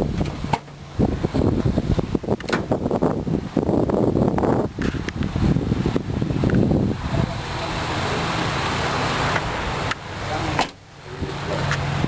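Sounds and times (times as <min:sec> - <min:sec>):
wind on microphone: 0:00.0 - 0:09.8
car engine idling: 0:00.0 - 0:12.0.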